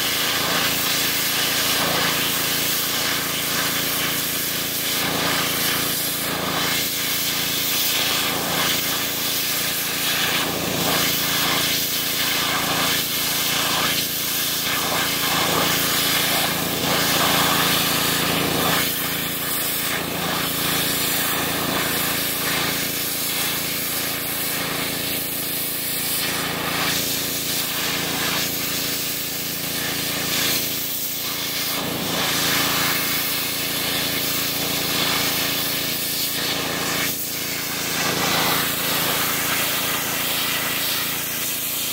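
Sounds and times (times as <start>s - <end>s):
pressure washer spraying: 0.0s - 41.9s.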